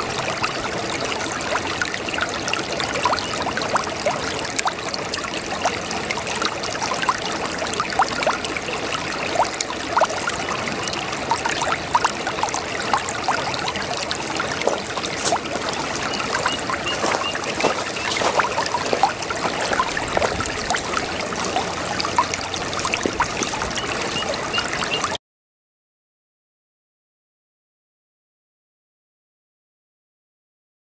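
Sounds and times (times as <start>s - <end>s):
shallow brook babbling: 0.0s - 25.2s.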